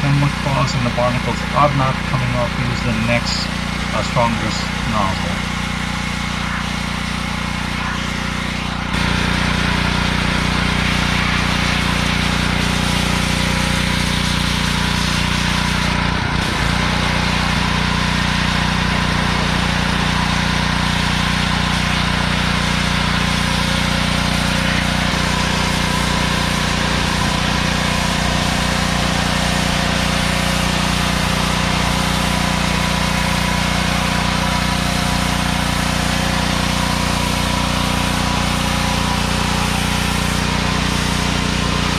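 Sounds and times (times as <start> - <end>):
power washer motor humming: 0.0 - 41.9
high-pressure spray hissing: 1.3 - 41.9.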